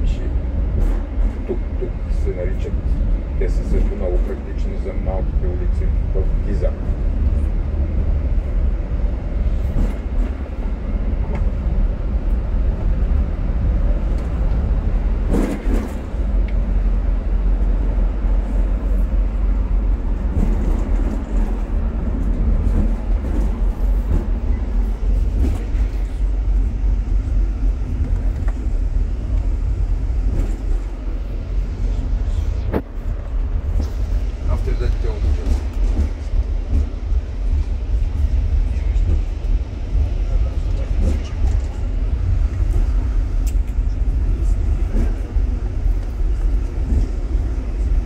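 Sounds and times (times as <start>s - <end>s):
bus engine and road noise: 0.0s - 48.0s.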